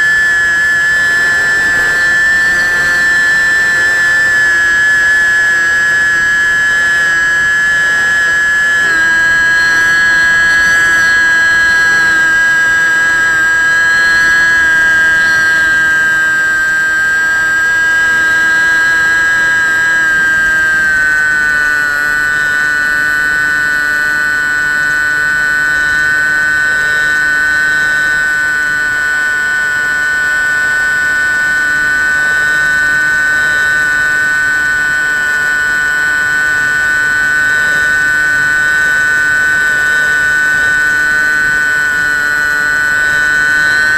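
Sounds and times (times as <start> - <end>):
electric motor and propeller whine: 0.0 - 43.9.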